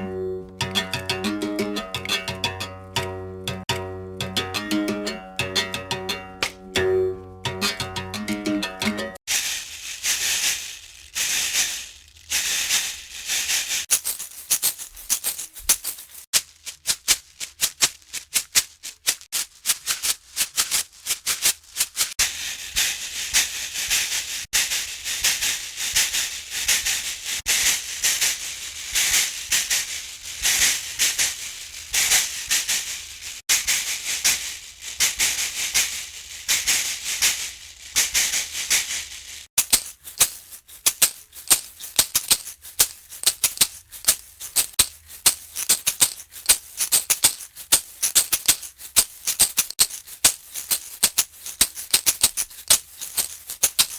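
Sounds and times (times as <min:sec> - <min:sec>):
basket rattle shaking: 0:07.6 - 0:53.9.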